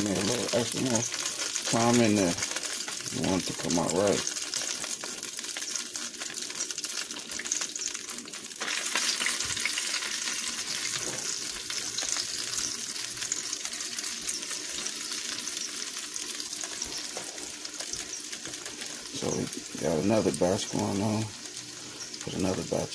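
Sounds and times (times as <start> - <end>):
liver frying in hot oil: 0.0 - 22.9.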